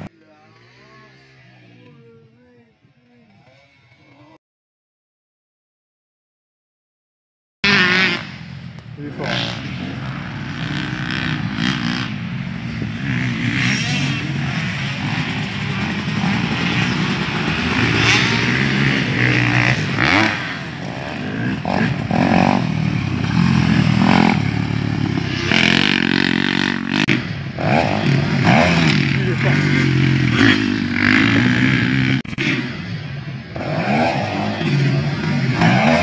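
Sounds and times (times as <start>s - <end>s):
dirt bike engines revving: 0.0s - 4.4s, 7.6s - 36.0s.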